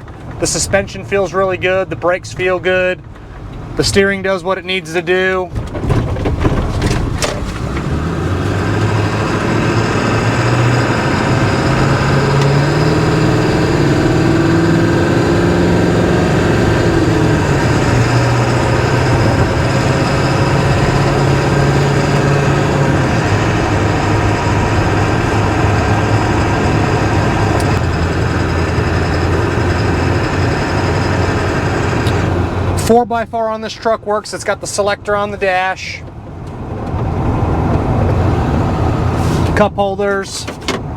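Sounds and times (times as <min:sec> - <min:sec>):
diesel engine drone: 0:00.0 - 0:40.9
road and tyre noise: 0:00.0 - 0:40.9.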